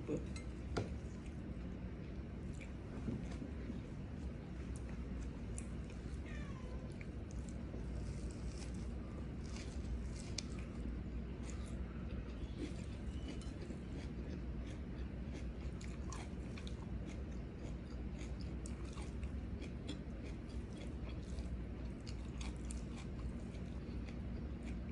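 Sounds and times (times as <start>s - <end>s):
low steady hum: 0.0s - 24.9s
person chewing food: 0.1s - 6.2s, 6.8s - 24.9s.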